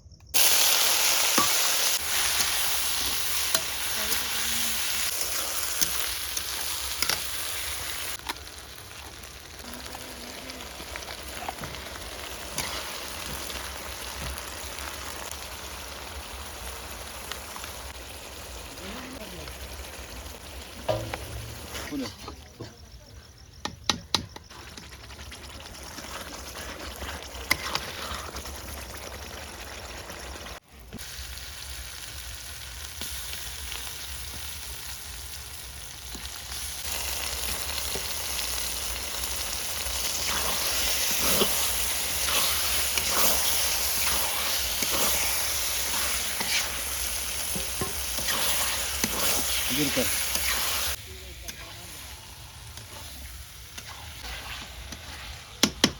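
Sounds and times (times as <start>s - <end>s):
food sizzling in oil: 0.4s - 22.2s, 24.4s - 55.6s.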